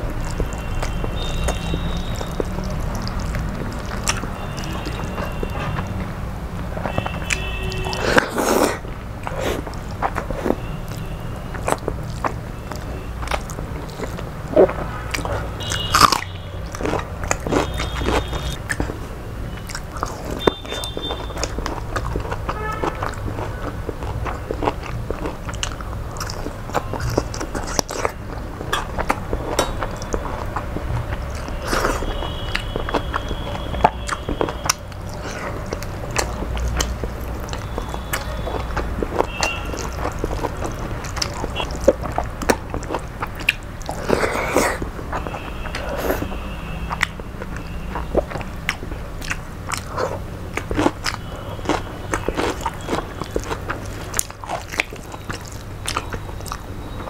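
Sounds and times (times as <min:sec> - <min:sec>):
person chewing food: 0:00.0 - 0:57.0
wet mouth clicks and smacks: 0:00.1 - 0:06.0, 0:06.9 - 0:19.0, 0:19.6 - 0:57.0.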